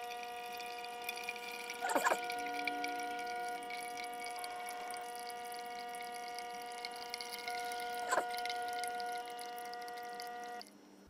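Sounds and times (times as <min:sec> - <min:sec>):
coffee dripping into mug: 0:00.0 - 0:10.8
coffee maker whine: 0:00.0 - 0:11.0.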